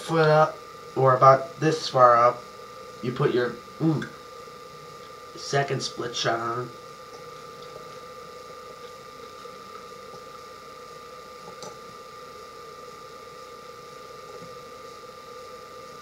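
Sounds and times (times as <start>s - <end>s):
room hum and hiss: 0.0s - 16.0s
thin high whine: 0.0s - 16.0s.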